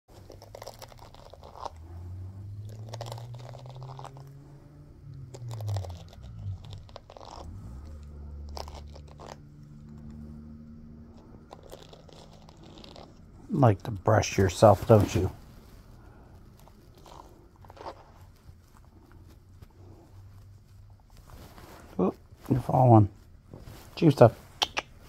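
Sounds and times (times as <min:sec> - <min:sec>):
brush bristles scraping fur: 0:00.1 - 0:22.9
low steady hum: 0:00.1 - 0:25.0.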